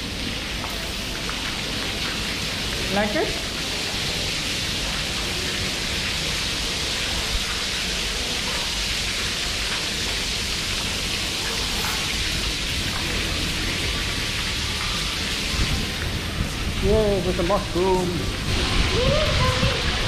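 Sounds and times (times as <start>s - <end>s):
water jets spraying on floor: 0.0s - 20.0s.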